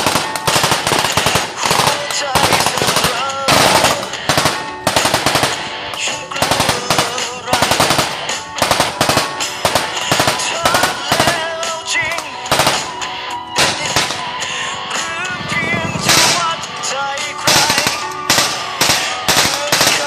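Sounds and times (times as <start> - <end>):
machine-gun bursts: 0.0 - 11.8, 12.5 - 13.0, 13.6 - 14.3, 16.0 - 16.6, 17.4 - 20.0.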